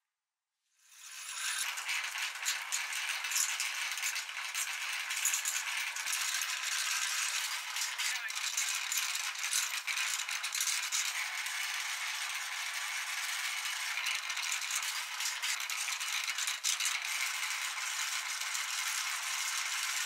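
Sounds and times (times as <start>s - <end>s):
meat grinder rattling: 1.0s - 20.0s.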